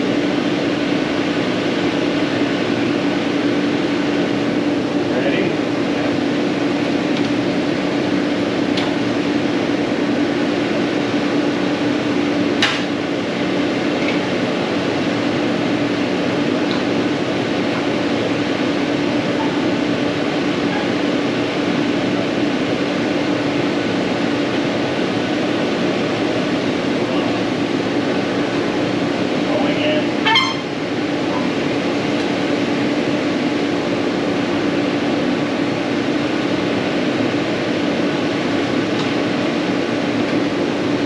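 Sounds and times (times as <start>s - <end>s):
mechanical whirring hum: 0.0s - 41.0s.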